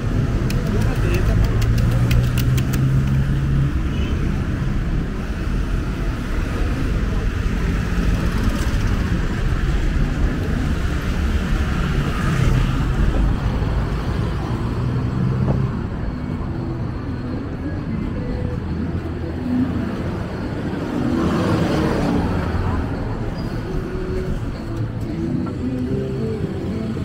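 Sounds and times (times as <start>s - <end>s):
motorbikes and cars driving past: 0.0s - 15.5s, 18.2s - 27.0s.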